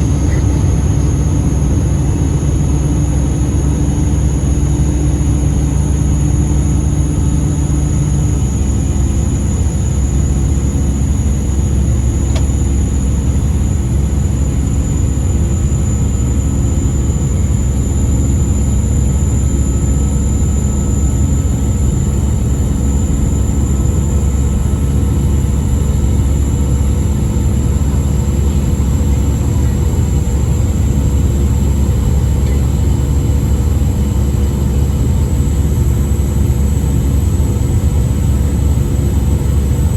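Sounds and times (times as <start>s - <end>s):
aircraft cabin rumble: 0.0s - 39.9s
low hum: 0.0s - 39.9s.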